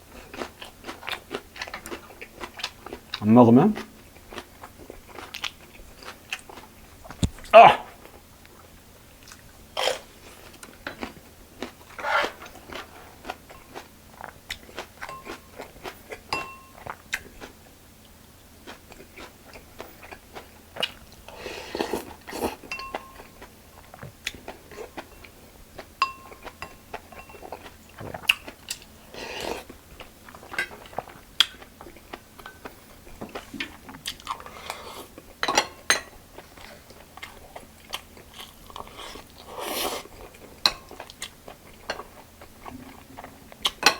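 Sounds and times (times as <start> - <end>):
chewing and crisp crunching: 0.0 - 43.9.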